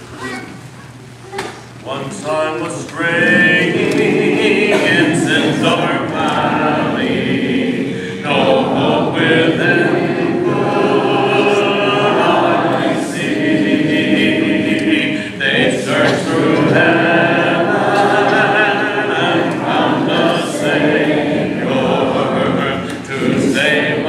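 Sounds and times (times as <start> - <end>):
congregation singing a hymn: 1.9 - 24.0.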